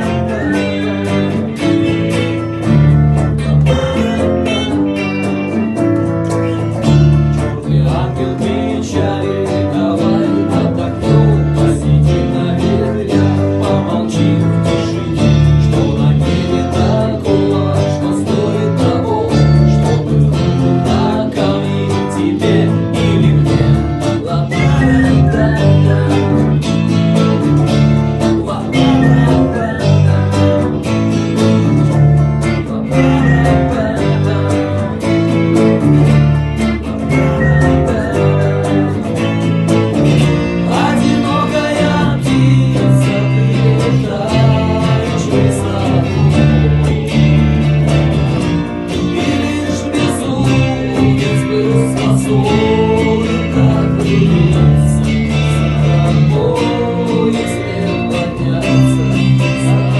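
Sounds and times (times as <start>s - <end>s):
bass guitar low notes: 0.0s - 59.9s
strummed acoustic guitar: 0.0s - 59.9s.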